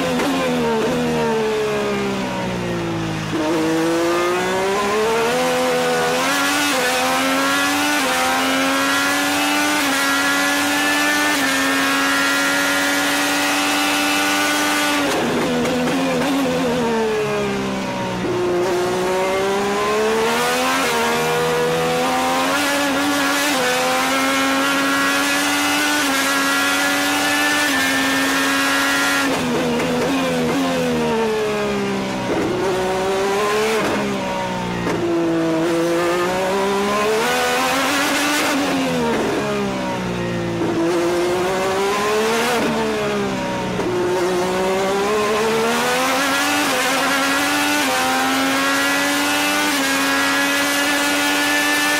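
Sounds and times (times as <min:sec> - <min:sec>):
race car engine revving: 0:02.6 - 0:51.9.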